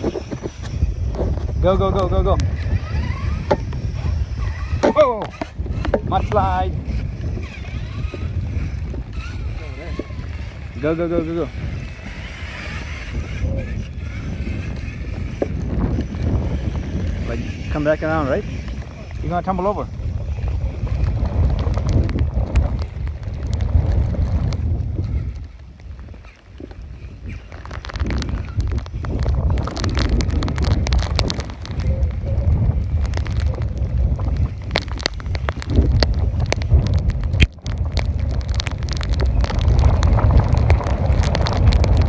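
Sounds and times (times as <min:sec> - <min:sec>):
sharp ticks: 0:00.0 - 0:31.9, 0:32.9 - 0:42.0
wind buffeting microphone: 0:00.0 - 0:42.0.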